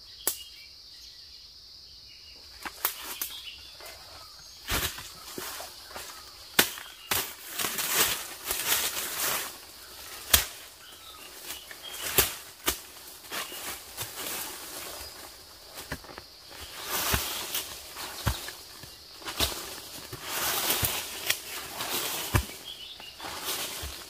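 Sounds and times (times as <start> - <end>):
dry leaves rustling: 2.6 - 24.0
twigs snapping: 2.6 - 24.0.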